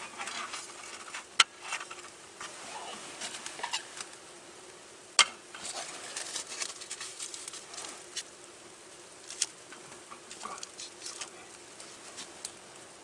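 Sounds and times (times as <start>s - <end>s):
faint steady hum: 0.0s - 13.0s
small crackles and ticks: 0.0s - 13.0s.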